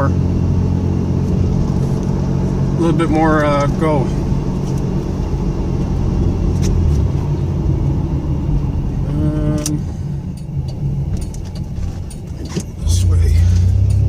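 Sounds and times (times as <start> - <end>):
car engine running at low speed: 0.0 - 14.0
road and tyre rumble: 0.0 - 14.0.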